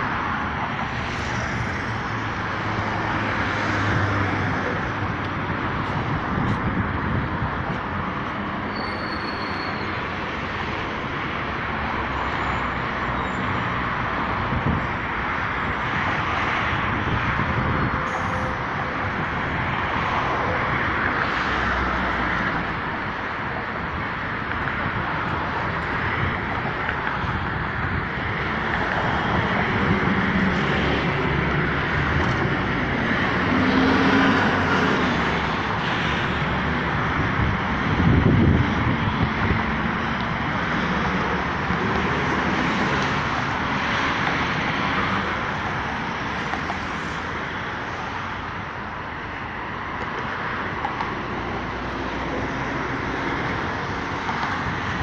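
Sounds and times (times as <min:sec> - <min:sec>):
cars and buses passing: 0:00.0 - 0:55.0.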